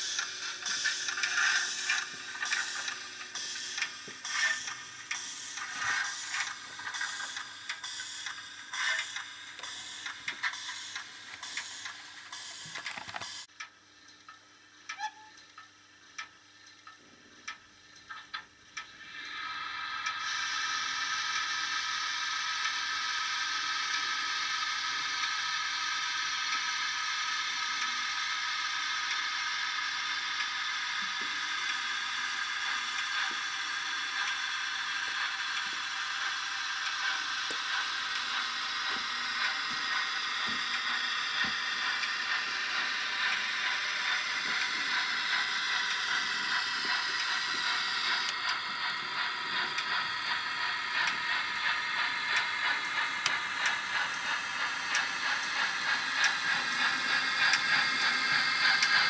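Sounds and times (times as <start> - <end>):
model train motor whirring: 0.0 - 13.5, 19.0 - 59.0
steam hissing from small speaker: 0.0 - 13.5, 18.9 - 59.0.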